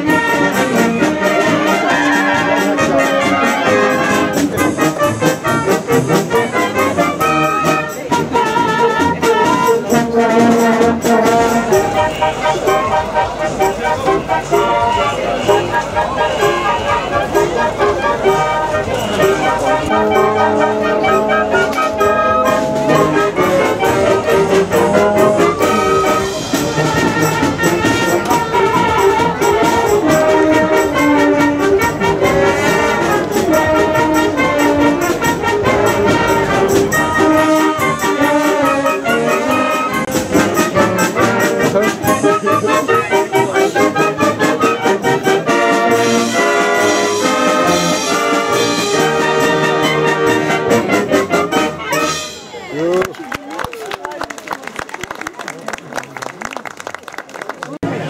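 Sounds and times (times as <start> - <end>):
wind band playing a tune: 0.0 - 53.7.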